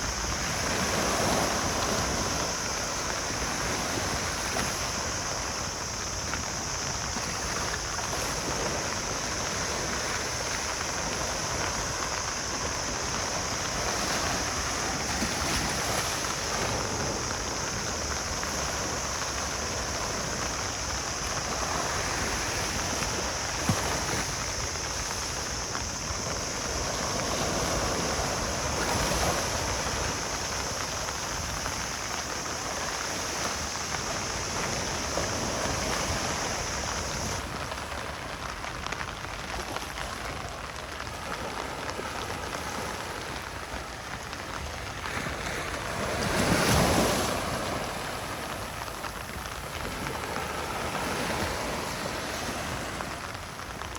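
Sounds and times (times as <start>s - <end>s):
ocean waves washing onto beach: 0.0s - 53.9s.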